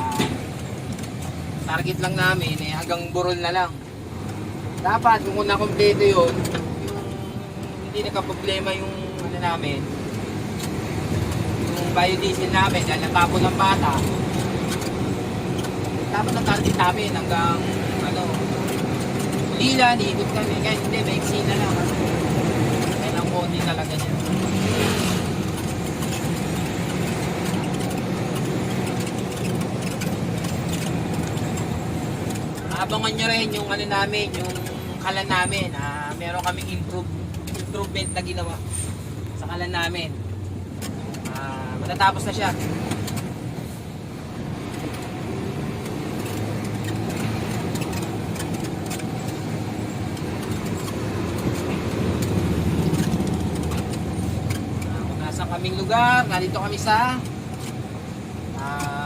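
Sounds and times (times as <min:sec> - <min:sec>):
diesel truck engine drone: 0:00.0 - 0:59.0
road noise: 0:00.0 - 0:59.0.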